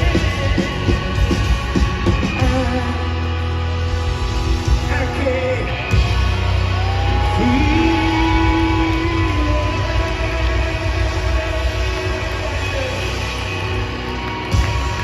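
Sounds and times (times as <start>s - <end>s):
low bass drone: 0.0s - 15.0s
rock band playing live: 0.0s - 15.0s.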